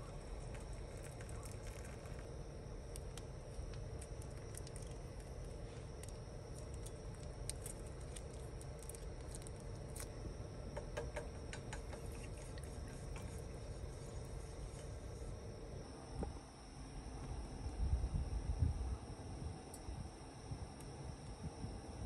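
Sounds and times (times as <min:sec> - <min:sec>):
low rumble and hiss: 0:00.0 - 0:22.0.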